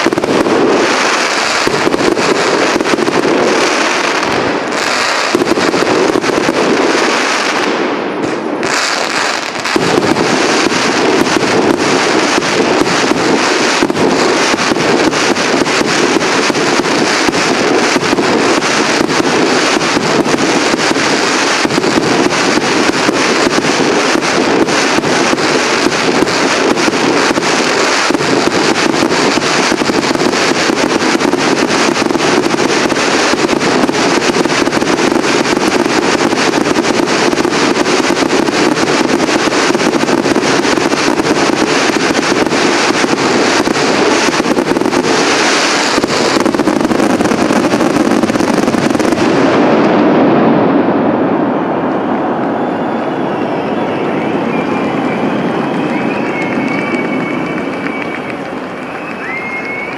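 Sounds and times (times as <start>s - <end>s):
fireworks crackling bangs: 0.0s - 59.9s.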